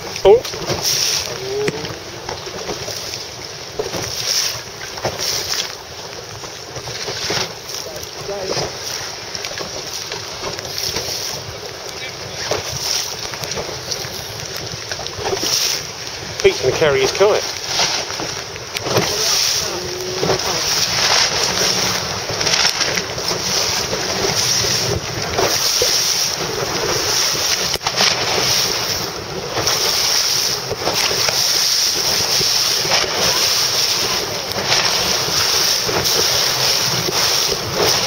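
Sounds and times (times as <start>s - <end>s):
choppy sea water splashing: 0.0s - 38.0s.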